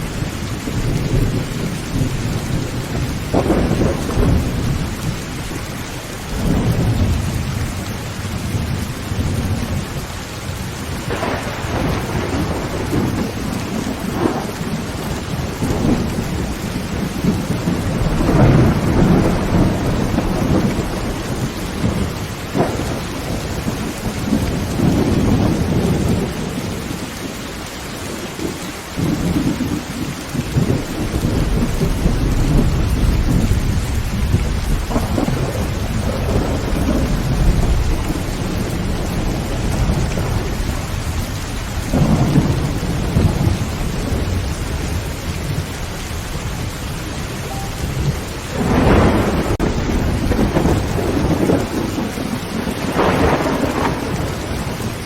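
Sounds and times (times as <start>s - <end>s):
thunder rumbling: 0.0s - 27.4s, 28.1s - 55.0s
rain drumming on a tin roof: 0.0s - 55.0s
thunder cracks: 0.7s - 5.6s, 10.8s - 26.6s, 30.4s - 46.6s, 47.2s - 55.0s.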